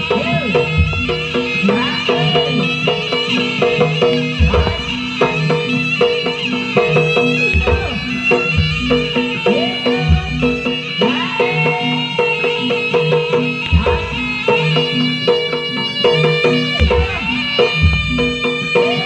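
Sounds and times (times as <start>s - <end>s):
drumming: 0.0s - 19.0s
metallophone notes: 0.0s - 19.0s
shrill reed pipe melody: 0.0s - 19.0s.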